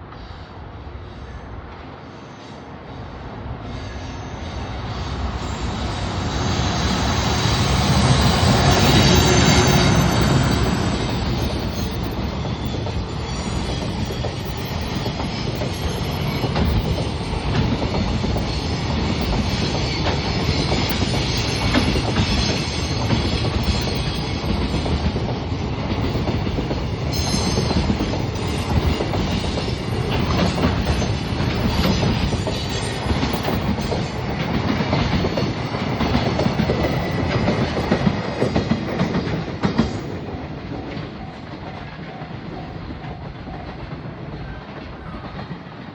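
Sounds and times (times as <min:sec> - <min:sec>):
freight train passing: 0:00.0 - 0:45.9
rumble of freight wagons: 0:04.6 - 0:45.9.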